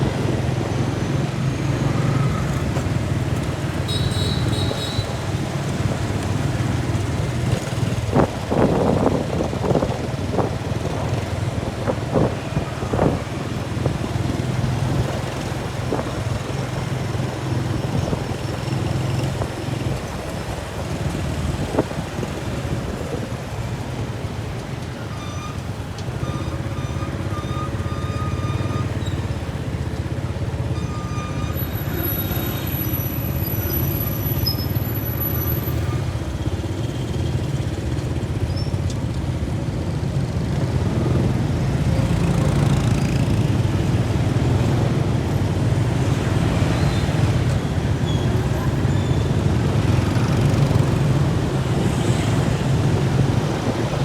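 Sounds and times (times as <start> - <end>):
vehicle engine running in traffic: 0.0 - 54.0.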